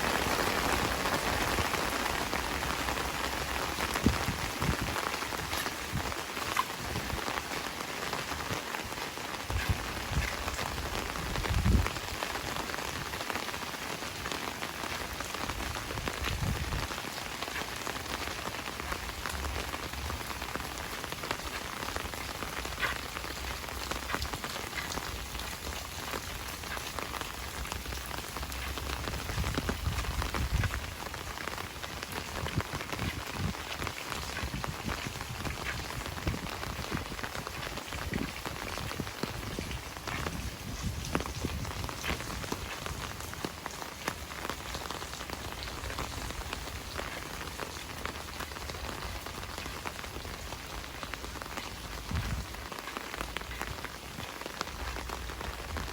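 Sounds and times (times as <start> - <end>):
heavy rain: 0.0 - 55.9.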